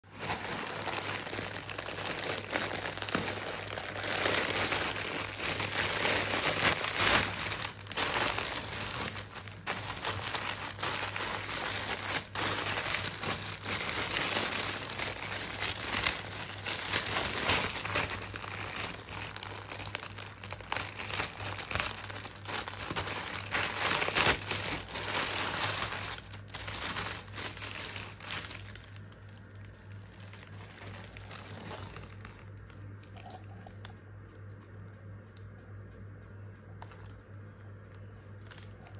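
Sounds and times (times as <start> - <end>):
plastic packaging crinkling: 0.0 - 34.6, 36.8 - 38.9.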